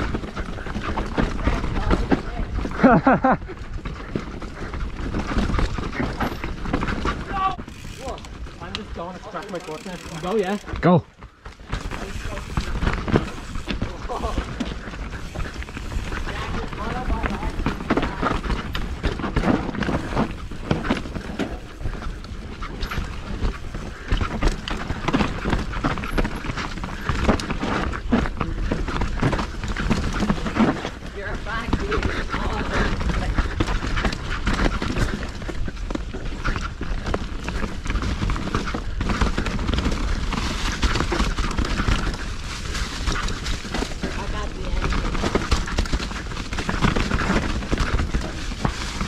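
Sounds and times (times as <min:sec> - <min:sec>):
bike frame and chain clattering: 0:00.0 - 0:49.0
bike tyres rumbling on dirt: 0:00.0 - 0:49.0.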